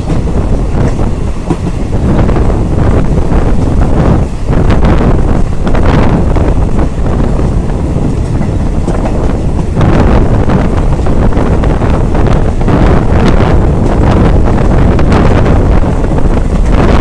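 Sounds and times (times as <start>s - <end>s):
moving train rumble: 0.0s - 17.0s
wind buffeting microphone: 0.0s - 17.0s.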